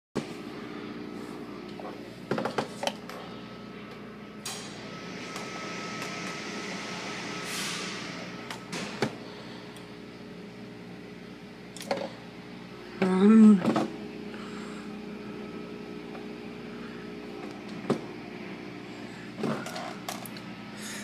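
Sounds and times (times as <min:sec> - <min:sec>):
steady low hum: 0:00.2 - 0:21.0.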